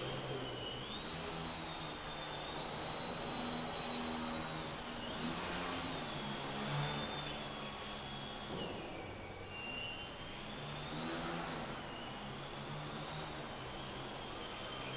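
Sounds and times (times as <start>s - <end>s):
model plane motor whining: 0.0s - 14.9s.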